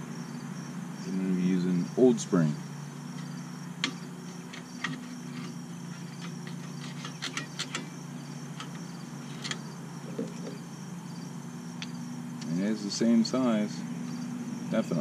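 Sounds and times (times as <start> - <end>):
insects chirring: 0.0 - 15.0
steady low hum: 0.0 - 15.0.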